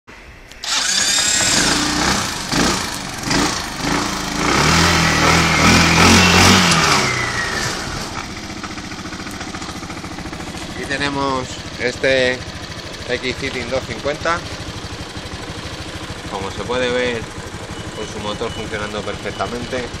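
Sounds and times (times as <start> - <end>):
scooter engine revving and idling: 0.6 - 20.0.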